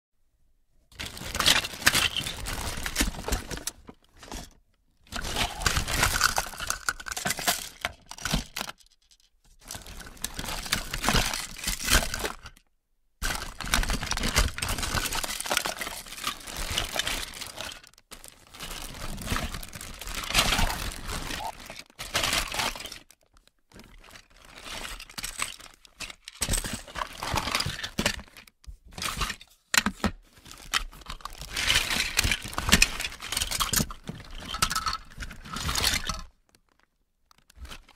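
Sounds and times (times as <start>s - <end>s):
plastic toys rattling in a box: 0.9s - 37.9s.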